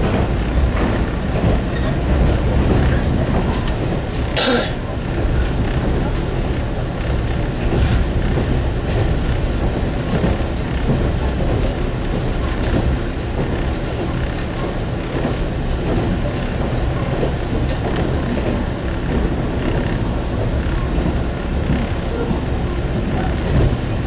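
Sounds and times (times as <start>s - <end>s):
railcar engine and wheels rumbling: 0.0s - 24.0s.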